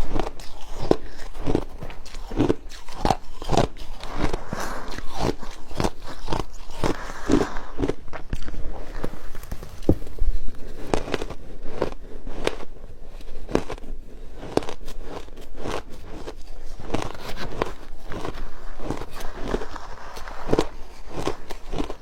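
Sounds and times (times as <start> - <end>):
person crunching ice: 0.0 - 22.0.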